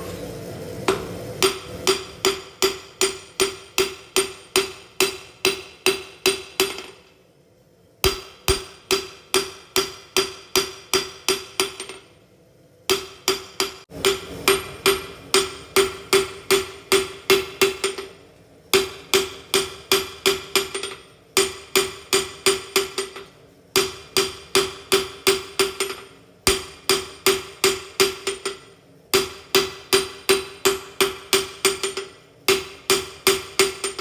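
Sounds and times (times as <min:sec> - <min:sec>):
hammer striking anvil: 0:00.9 - 0:07.1, 0:08.0 - 0:12.2, 0:12.9 - 0:34.0.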